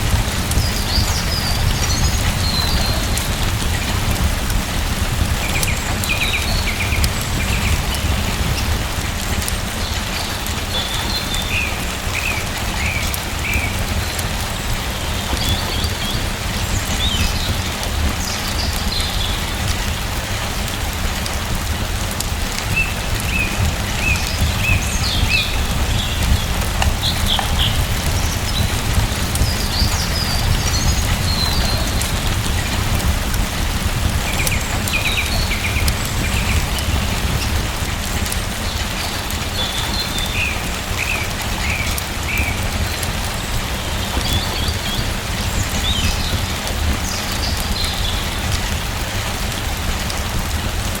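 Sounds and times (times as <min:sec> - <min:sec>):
rain falling: 0:00.0 - 0:51.0
small birds chirping: 0:00.1 - 0:21.8, 0:22.5 - 0:49.7.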